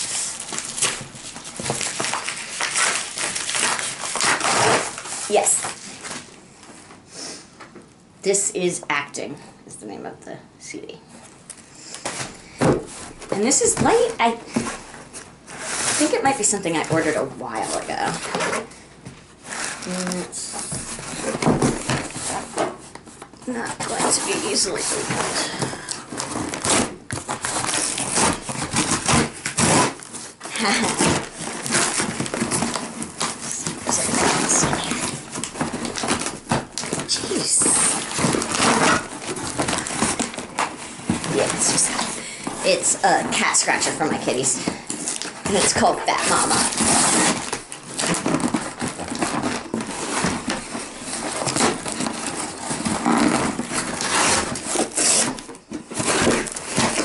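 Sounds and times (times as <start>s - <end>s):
cardboard ripping and scraping: 0.0s - 6.4s, 11.9s - 57.0s.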